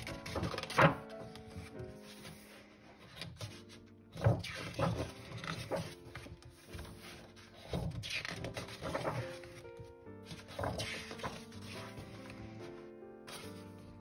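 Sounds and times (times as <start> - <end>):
paper thumps and rustles: 0.0 - 13.9
book pages turning: 0.0 - 14.0
quiet piano music: 0.0 - 14.0.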